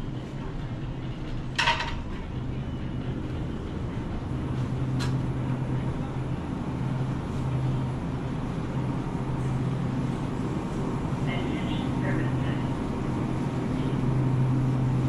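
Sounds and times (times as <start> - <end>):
refrigerator hum: 0.0 - 15.0.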